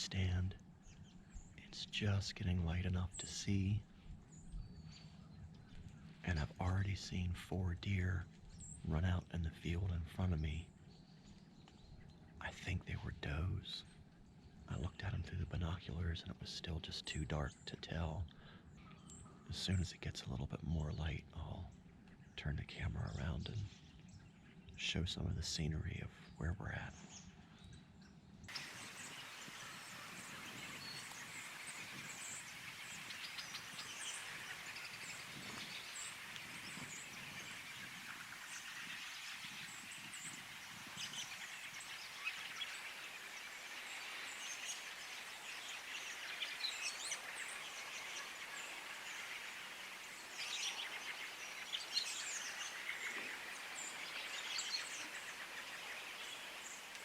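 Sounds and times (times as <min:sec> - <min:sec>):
outdoor background hiss: 0:00.0 - 0:57.0
songbird chirps: 0:00.0 - 0:57.0.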